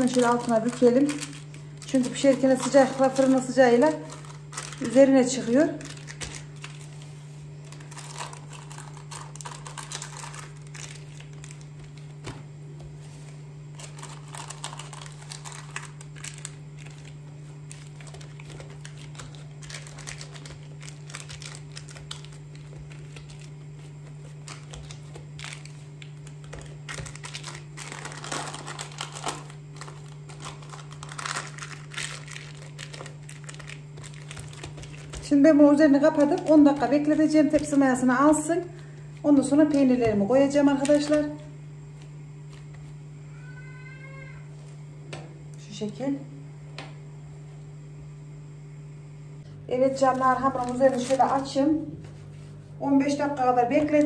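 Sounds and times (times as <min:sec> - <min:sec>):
baking paper crinkling: 0:00.0 - 0:43.1, 0:49.9 - 0:54.0
steady low hum: 0:00.0 - 0:54.0.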